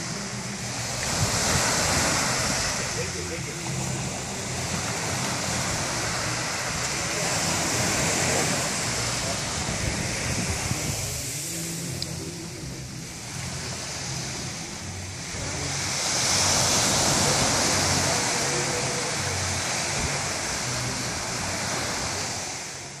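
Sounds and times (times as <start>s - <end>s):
small waves breaking on beach: 0.0s - 23.0s.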